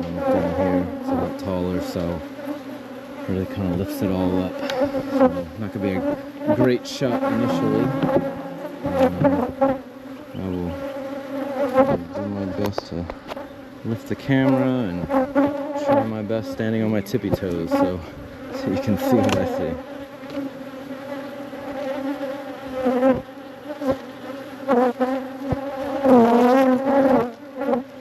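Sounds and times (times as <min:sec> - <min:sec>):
bees buzzing: 0:00.0 - 0:28.0.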